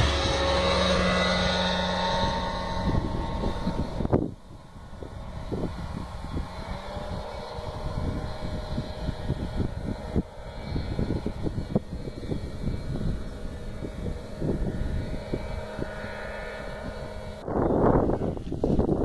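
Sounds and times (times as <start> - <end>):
light aircraft engine and propeller: 0.0 - 19.0
wind buffeting microphone: 0.0 - 19.0.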